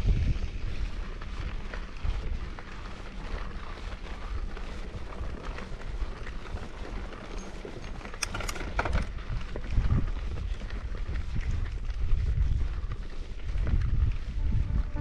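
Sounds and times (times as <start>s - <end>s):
bike rolling on dirt trail: 0.0s - 15.0s
wind buffeting microphone: 0.0s - 15.0s.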